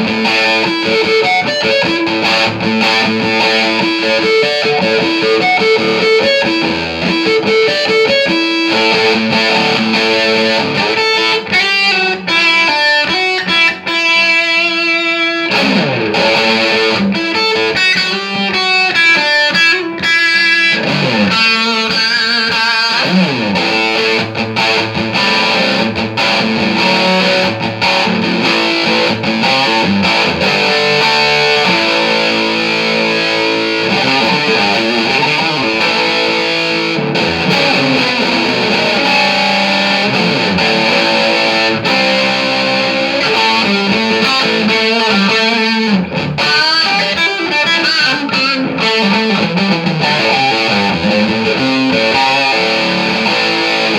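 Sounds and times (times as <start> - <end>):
distorted electric guitar riffs: 0.0 - 53.9.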